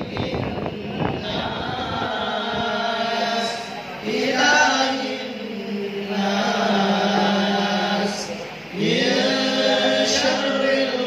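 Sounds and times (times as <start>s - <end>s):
boys chanting in unison: 0.0s - 11.0s.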